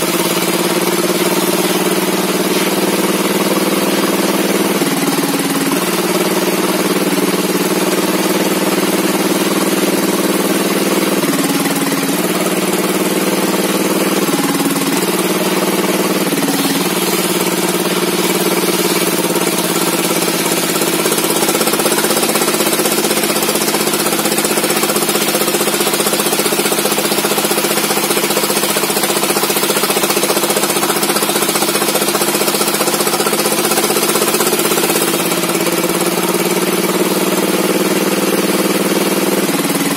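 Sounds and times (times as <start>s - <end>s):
log-sawing machine engine running: 0.0s - 39.9s.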